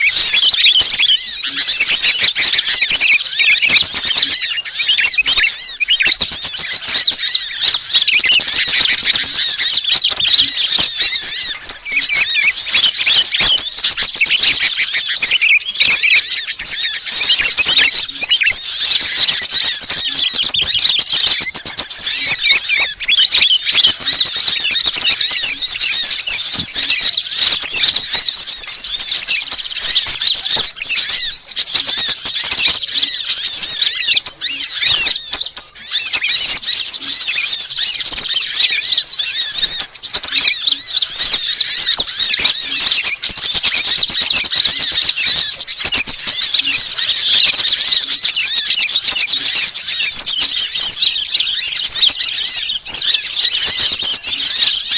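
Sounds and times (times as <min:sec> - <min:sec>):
songbirds chirping and twittering: 0:00.0 - 0:54.9.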